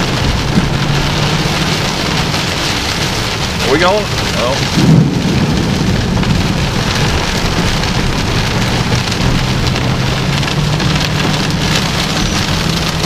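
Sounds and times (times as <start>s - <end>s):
heavy rain drumming on car roof: 0.0s - 13.0s
low vehicle hum: 0.0s - 13.0s.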